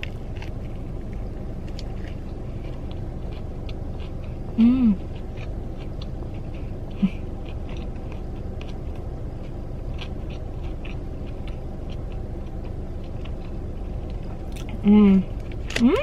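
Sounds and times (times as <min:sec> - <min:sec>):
chewing crunches: 0:00.0 - 0:16.0
steady low rumble: 0:00.0 - 0:16.0.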